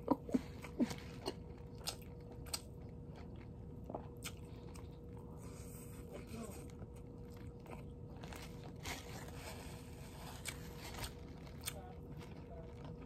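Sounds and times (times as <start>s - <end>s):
person chewing noodles: 0.0s - 13.0s.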